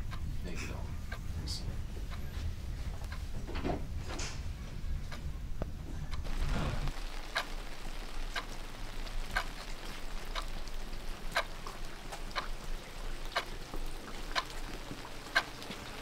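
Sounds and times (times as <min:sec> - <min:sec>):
clock ticking: 0:00.0 - 0:03.4, 0:04.0 - 0:16.0
soft steady hiss: 0:00.0 - 0:16.0.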